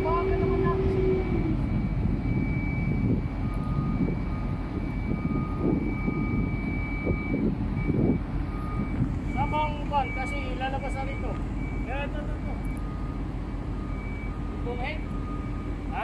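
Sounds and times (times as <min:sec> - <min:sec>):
heavy machinery engines droning: 0:00.0 - 0:16.0.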